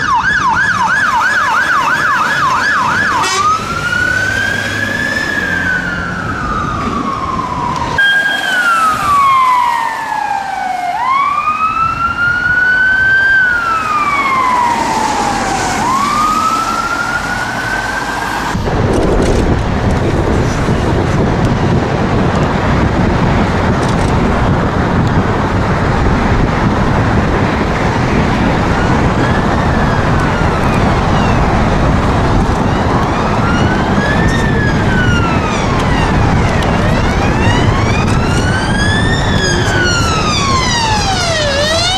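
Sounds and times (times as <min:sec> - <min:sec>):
emergency vehicle siren wailing: 0:00.0 - 0:41.9
engine and road noise: 0:00.0 - 0:41.9.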